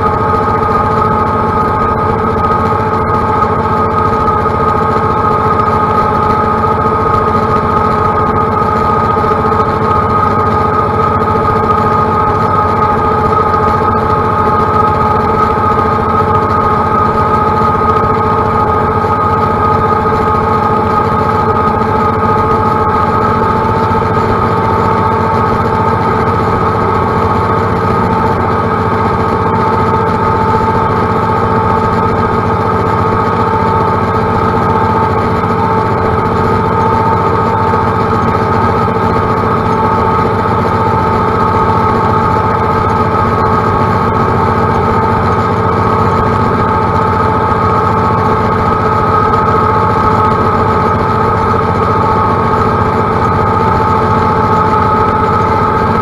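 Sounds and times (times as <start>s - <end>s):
steady whine: 0.0s - 56.0s
tractor engine running: 0.0s - 56.0s.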